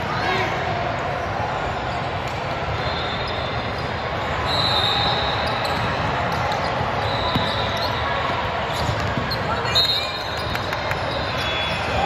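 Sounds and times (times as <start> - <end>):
basketball game crowd and court: 0.0 - 12.0.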